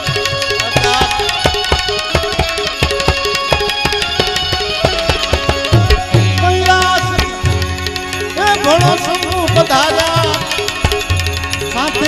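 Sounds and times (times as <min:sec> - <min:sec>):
harmonium chords: 0:00.0 - 0:12.0
tabla drum strokes: 0:00.0 - 0:12.0.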